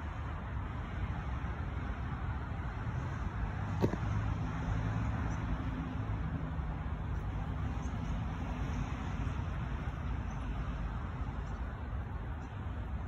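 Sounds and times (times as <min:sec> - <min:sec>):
distant road traffic: 0:00.0 - 0:13.0
low engine hum: 0:00.0 - 0:13.0.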